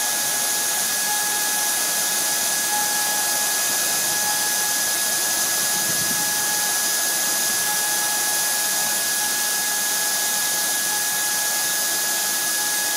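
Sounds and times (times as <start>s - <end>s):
milling spindle whining: 0.0s - 12.9s.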